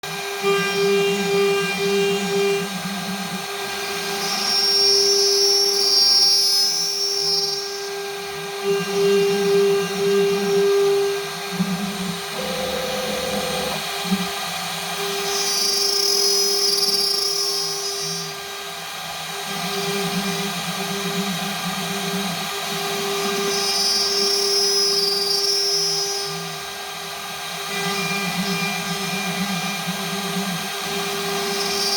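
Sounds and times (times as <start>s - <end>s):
router spindle whining: 0.1s - 31.9s.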